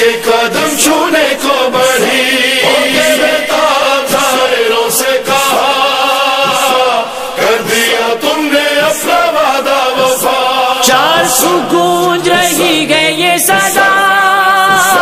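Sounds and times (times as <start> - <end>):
voices chanting a lament: 0.0 - 15.0.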